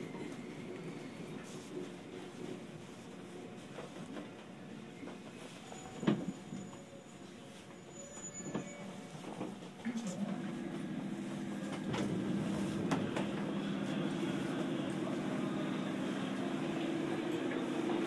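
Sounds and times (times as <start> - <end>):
electric train interior hum: 0.0 - 7.8, 8.4 - 18.0.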